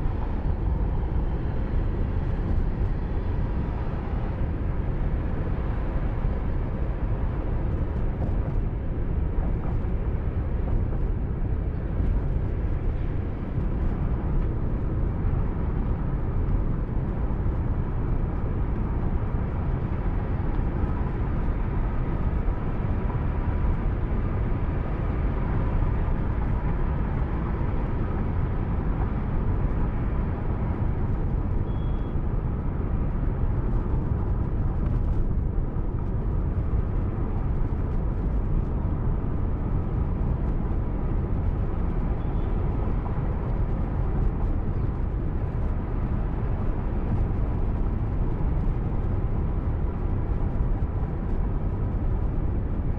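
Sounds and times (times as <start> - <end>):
car driving heard from inside: 0.0 - 52.9.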